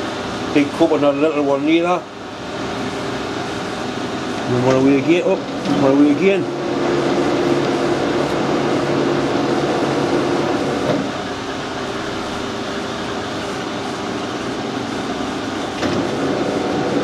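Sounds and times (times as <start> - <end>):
metal lathe whine and hum: 0.0 - 17.0.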